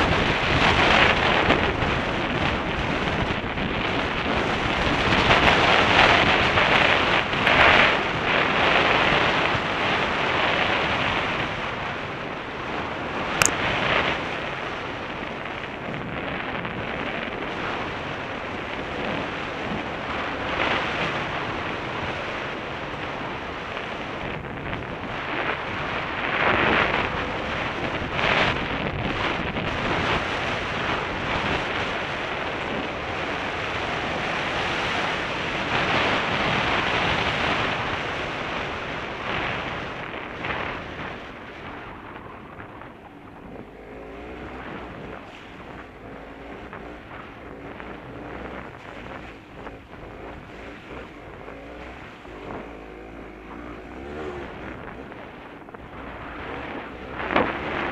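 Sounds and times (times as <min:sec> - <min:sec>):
motorcycle engine: 0:00.0 - 0:57.9
wind noise on microphone: 0:00.0 - 0:57.9.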